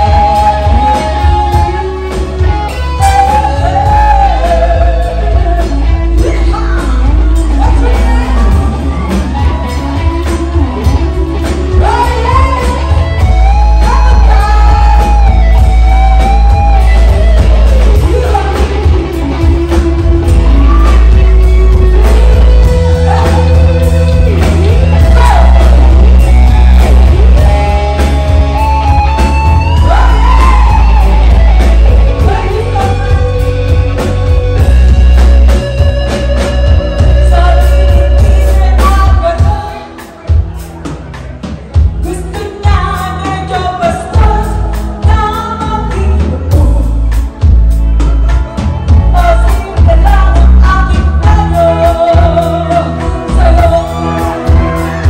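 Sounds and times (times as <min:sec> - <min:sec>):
live rock band playing: 0:00.0 - 0:55.0
woman singing lead: 0:00.0 - 0:55.0.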